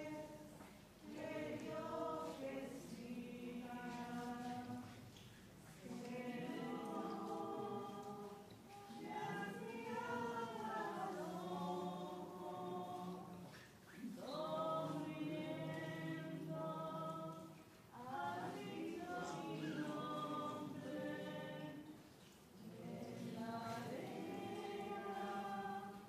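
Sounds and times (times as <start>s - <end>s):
choir singing a slow hymn: 0.0s - 26.0s.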